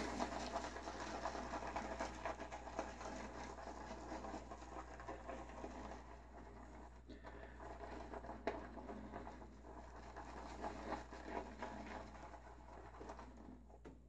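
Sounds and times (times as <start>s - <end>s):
shaving brush swirling in lather: 0.0s - 13.6s.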